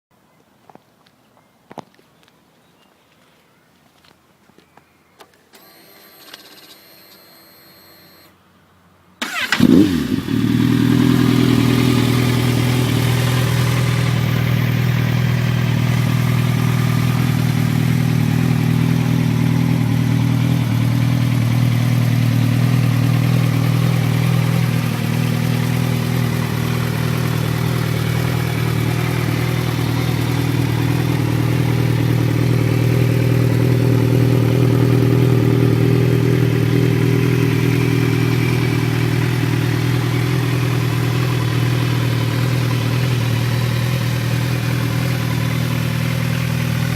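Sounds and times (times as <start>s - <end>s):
motorcycle engine idling low: 9.2s - 46.9s.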